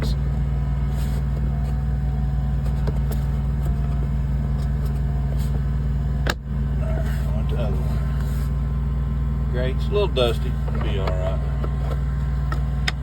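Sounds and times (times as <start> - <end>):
heater mechanical hum: 0.0 - 13.0.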